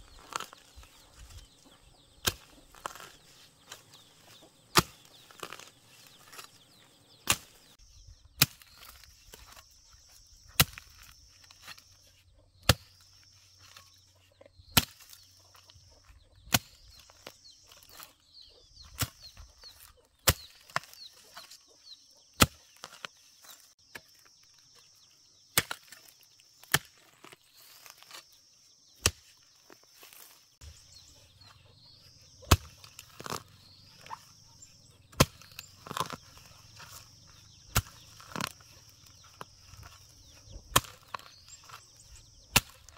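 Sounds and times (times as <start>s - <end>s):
hoe chopping into dry soil: 0.0s - 9.7s, 10.4s - 11.9s, 12.6s - 14.0s, 14.6s - 15.7s, 16.4s - 18.1s, 18.8s - 21.5s, 22.4s - 24.3s, 25.4s - 42.9s.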